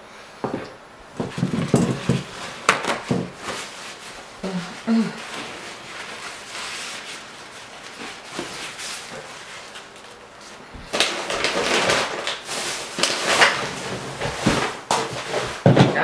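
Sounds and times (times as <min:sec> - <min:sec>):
paper towel crinkling: 0:01.2 - 0:16.0.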